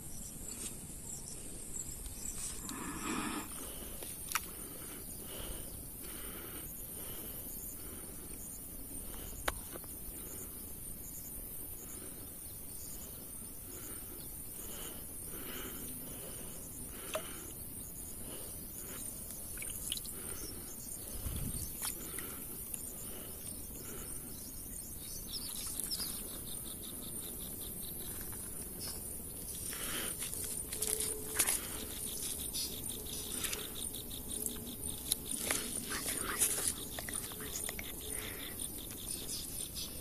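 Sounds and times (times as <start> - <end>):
insects buzzing high-pitched: 0.0 - 40.0.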